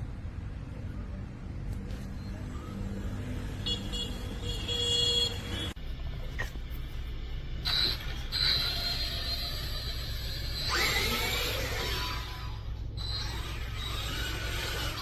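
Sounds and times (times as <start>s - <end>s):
high motor whine: 1.0s - 15.0s
rc truck rumbling: 1.1s - 15.0s.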